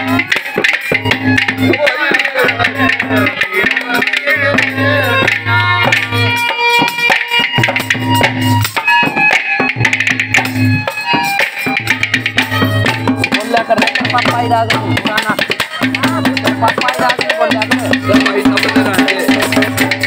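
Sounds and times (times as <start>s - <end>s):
dholak drumming: 0.0s - 20.0s
harmonium melody: 0.0s - 20.0s.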